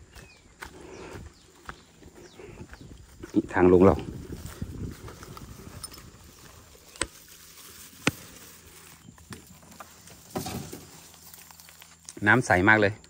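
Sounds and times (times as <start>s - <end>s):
footsteps: 0.0s - 12.2s.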